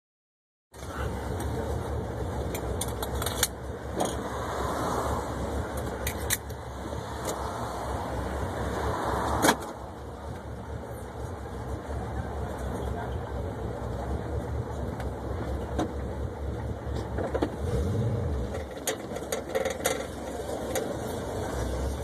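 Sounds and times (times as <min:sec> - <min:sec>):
car engine idling: 0:00.8 - 0:22.0.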